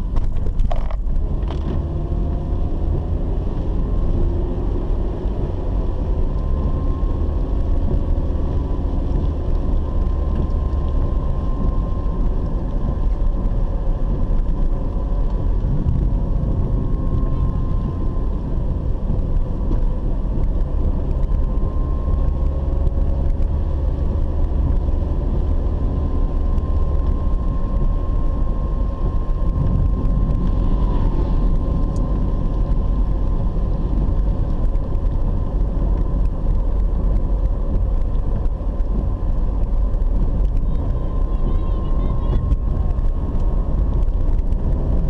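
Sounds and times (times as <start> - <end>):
engine and tyre rumble: 0.0 - 45.0.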